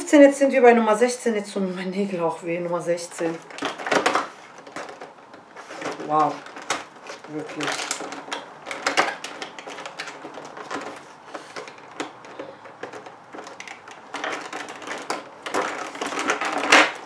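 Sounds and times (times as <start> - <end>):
cardboard clicking and crinkling: 2.8 - 17.0.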